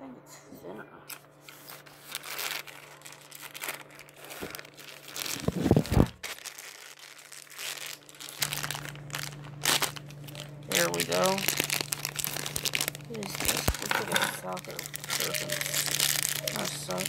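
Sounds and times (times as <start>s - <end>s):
plastic packaging crinkling: 1.1s - 17.0s.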